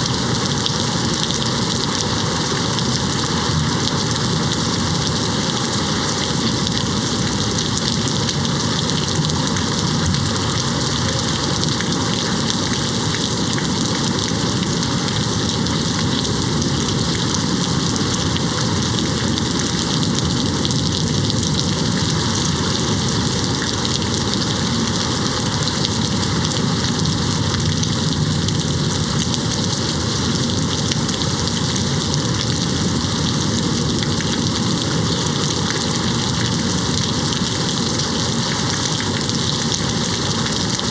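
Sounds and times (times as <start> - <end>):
rain hitting a window: 0.0 - 40.9.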